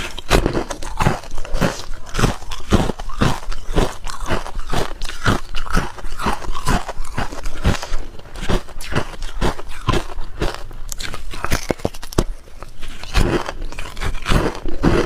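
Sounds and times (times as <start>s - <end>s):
ice being chewed crunching: 0.0s - 15.0s.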